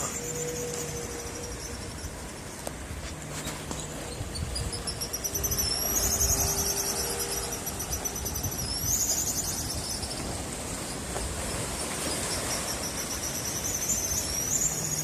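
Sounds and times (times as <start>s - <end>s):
bird trilling whistle call: 0.0s - 2.6s, 3.8s - 11.0s, 12.1s - 15.0s.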